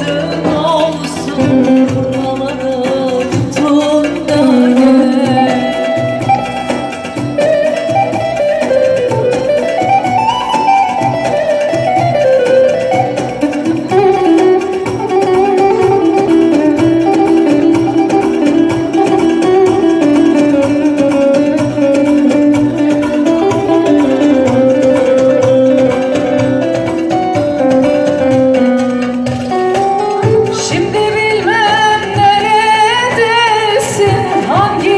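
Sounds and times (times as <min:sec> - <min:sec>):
keyboard plucked-string melody: 0:00.0 - 0:34.9.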